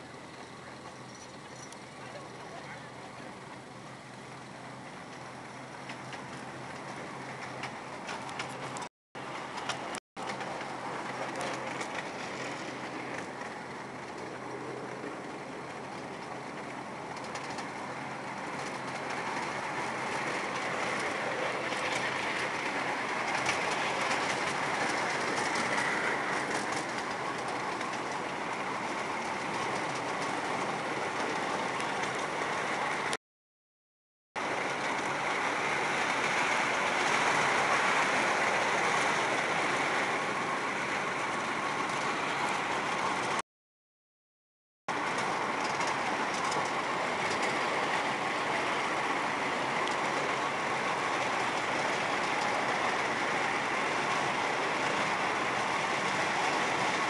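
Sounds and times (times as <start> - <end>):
train wheels rattling on rails: 0.0 - 33.2, 34.4 - 43.4, 44.9 - 57.0.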